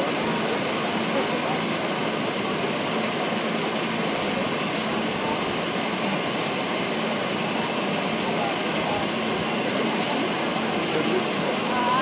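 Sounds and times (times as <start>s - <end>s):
murmur of outdoor crowd: 0.0s - 12.0s.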